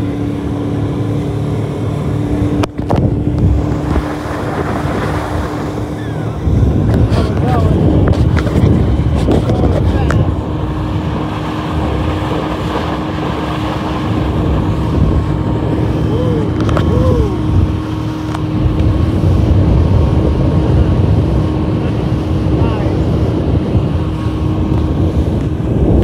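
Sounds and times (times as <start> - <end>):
motorboat engine hum: 0.0 - 26.0
water rushing along hull: 0.0 - 26.0.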